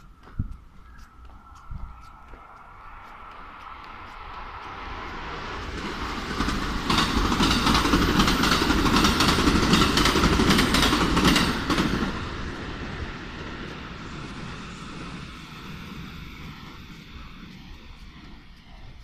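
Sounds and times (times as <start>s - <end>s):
train rumbling past: 0.0s - 19.0s
train wheels clattering: 0.0s - 19.0s.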